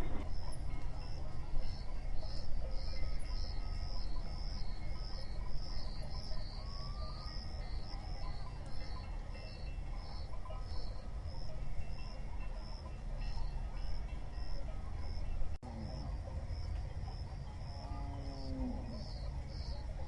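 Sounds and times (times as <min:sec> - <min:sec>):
crickets chirping: 0:00.0 - 0:20.0
low rumble of moving herd: 0:00.0 - 0:20.0.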